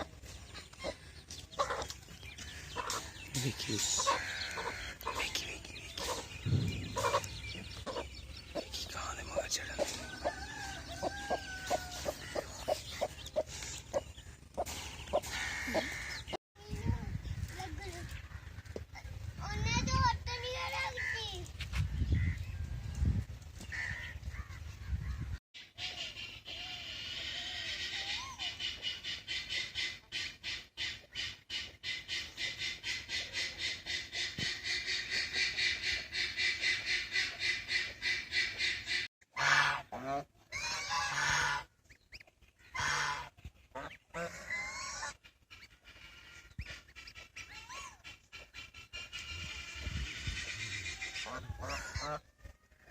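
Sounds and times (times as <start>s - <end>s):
birds clucking calls: 0.0s - 52.9s.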